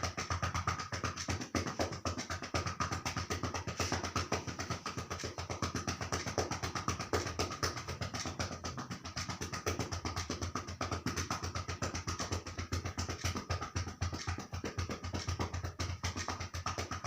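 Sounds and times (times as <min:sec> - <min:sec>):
hand percussion on chest: 0:00.0 - 0:17.0.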